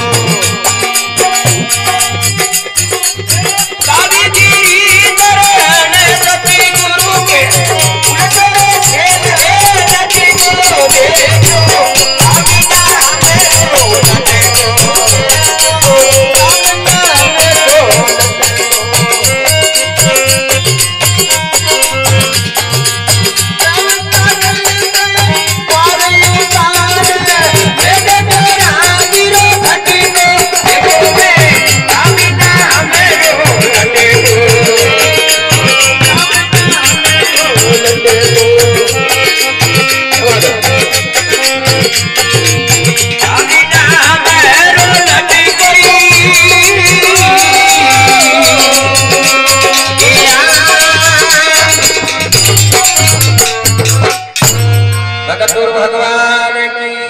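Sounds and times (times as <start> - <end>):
hand drum fast beat: 0.0 - 55.0
jingling hand cymbals: 0.0 - 55.2
harmonium melody: 0.0 - 57.0.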